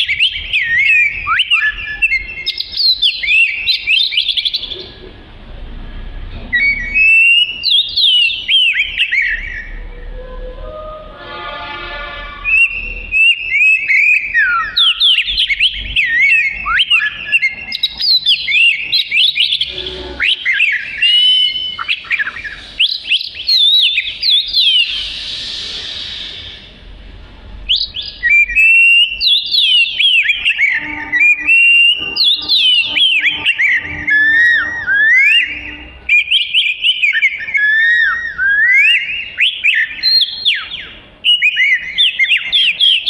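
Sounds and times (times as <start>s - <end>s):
songbird singing whistled notes: 0.0s - 5.0s, 6.5s - 10.2s, 12.4s - 26.8s, 27.7s - 43.0s.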